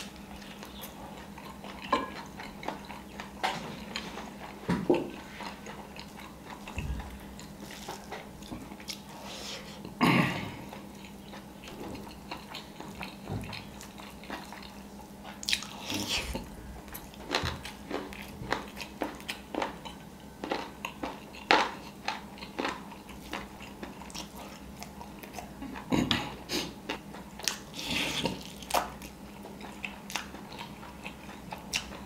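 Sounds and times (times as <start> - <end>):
man chewing with mouth smacks: 0.0 - 32.0.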